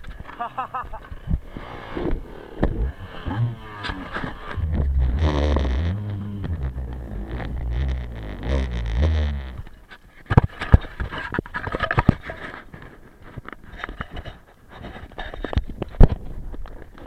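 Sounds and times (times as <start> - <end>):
bike rattling over rough ground: 0.0 - 17.0.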